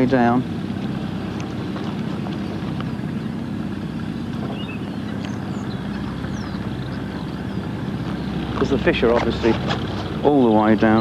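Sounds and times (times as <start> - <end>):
water pump droning: 0.0 - 11.0.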